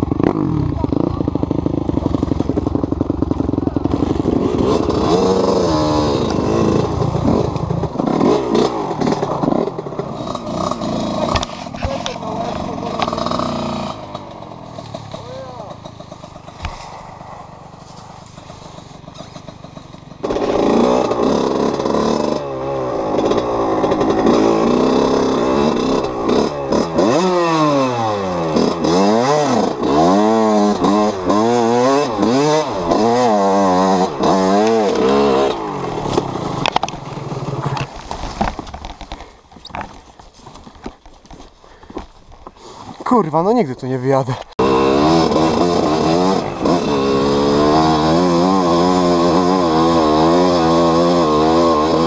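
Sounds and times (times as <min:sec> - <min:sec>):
dirt bike engine revving: 0:00.0 - 0:40.0, 0:44.6 - 0:52.0.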